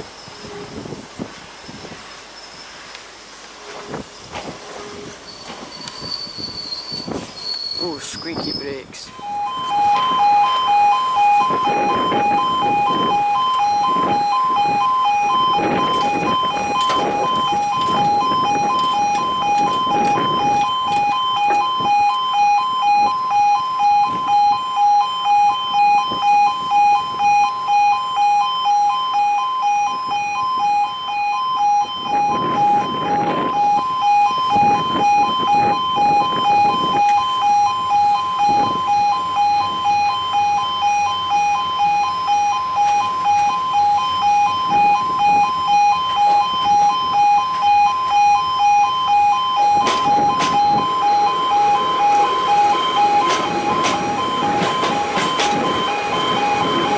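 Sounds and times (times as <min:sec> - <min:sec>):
level crossing alarm: 0:05.3 - 0:56.9.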